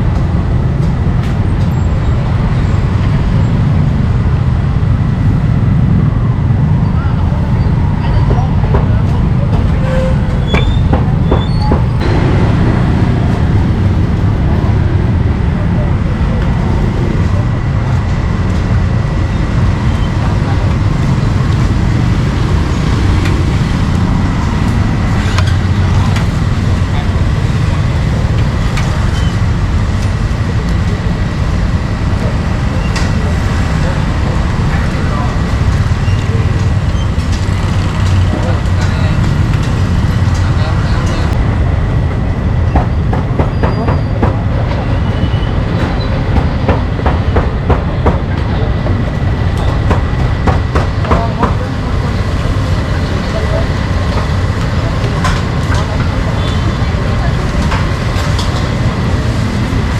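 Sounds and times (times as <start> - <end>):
street traffic rumble: 0.0 - 59.9
indistinct voices: 5.1 - 59.9.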